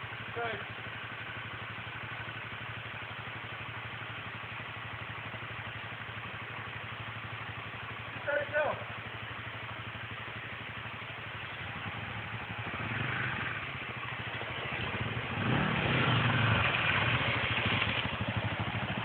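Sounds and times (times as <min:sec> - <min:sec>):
dirt bike engines: 0:00.0 - 0:19.0.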